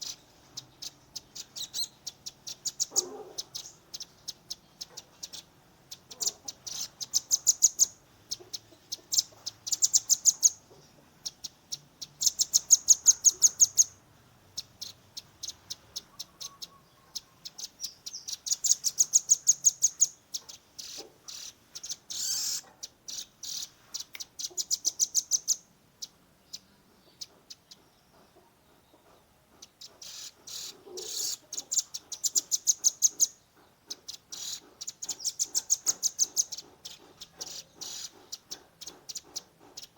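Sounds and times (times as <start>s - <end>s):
nuthatch rapid high calls: 0.0s - 14.0s, 14.6s - 26.6s, 29.6s - 39.9s.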